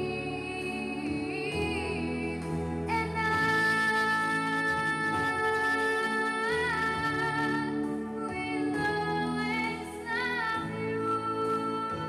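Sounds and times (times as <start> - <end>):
girl singing into a microphone: 0.0 - 12.0
instrumental accompaniment: 0.0 - 12.0.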